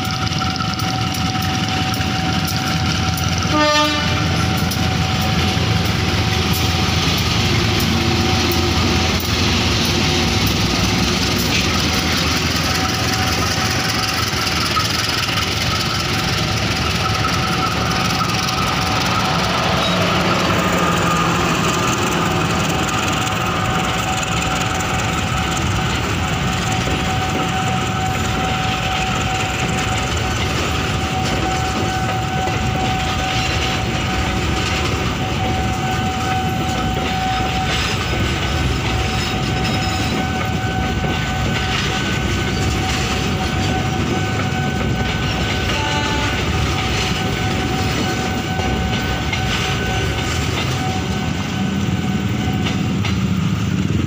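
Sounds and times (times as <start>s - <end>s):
train coaches rumbling past: 0.0s - 54.0s.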